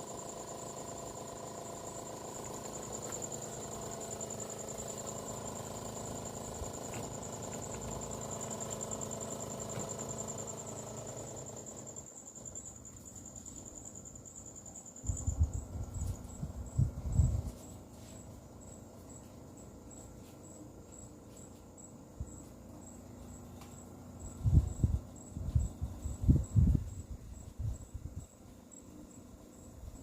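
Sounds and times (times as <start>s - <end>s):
air conditioner unit humming: 0.0s - 30.0s.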